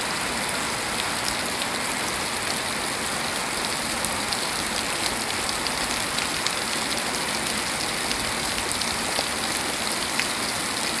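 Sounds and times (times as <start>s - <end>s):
raindrops pattering: 0.0s - 11.0s
steady rain hiss: 0.0s - 11.0s.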